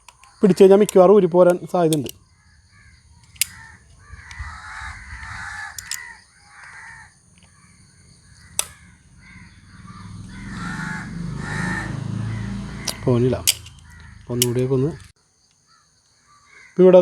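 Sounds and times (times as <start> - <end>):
sharp clicks: 0.0 - 15.6
crows cawing: 0.0 - 17.0.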